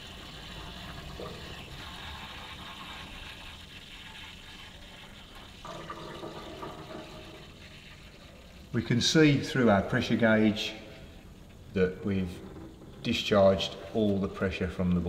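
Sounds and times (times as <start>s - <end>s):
water draining through hose: 0.0s - 15.0s.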